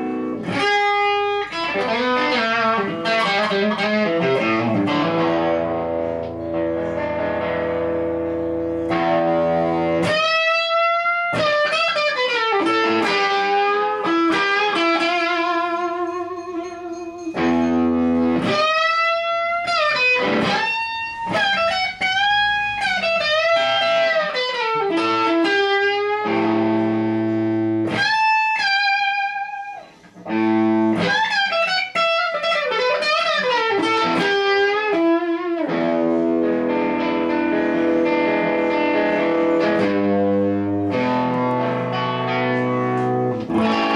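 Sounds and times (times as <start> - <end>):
electric guitar lead notes: 0.0 - 43.9.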